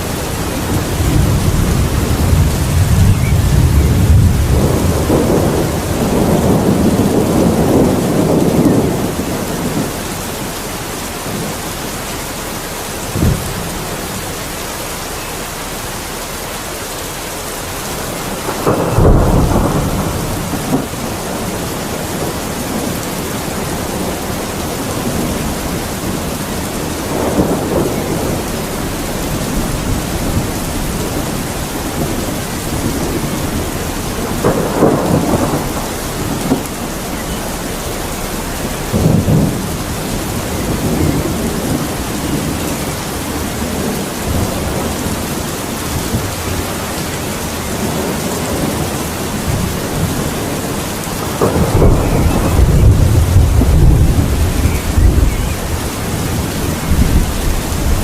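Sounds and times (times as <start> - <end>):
thunder rumbling and cracking: 0.0 - 14.6, 17.6 - 58.0
steady rain: 0.0 - 58.0.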